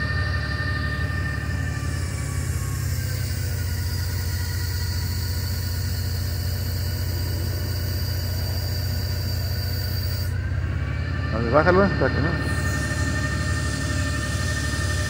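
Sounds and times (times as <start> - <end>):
forklift engine and hydraulic pump: 0.0 - 15.0.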